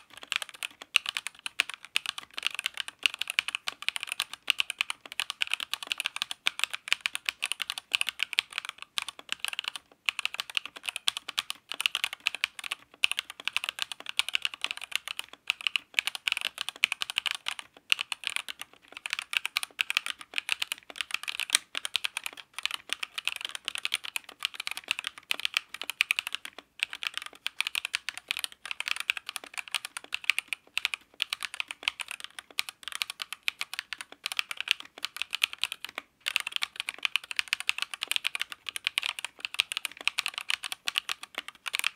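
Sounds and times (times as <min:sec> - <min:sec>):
mechanical keyboard clacking: 0:00.0 - 0:41.9.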